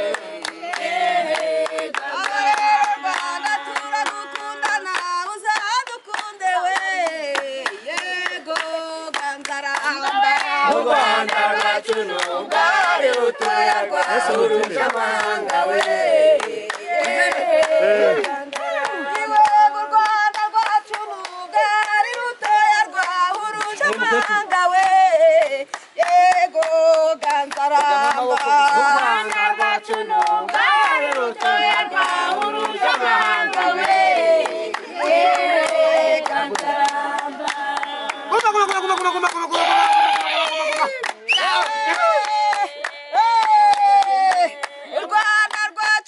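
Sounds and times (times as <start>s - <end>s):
group singing unaccompanied: 0.0s - 38.3s, 41.3s - 46.0s
hand-clapping in time: 0.0s - 46.0s.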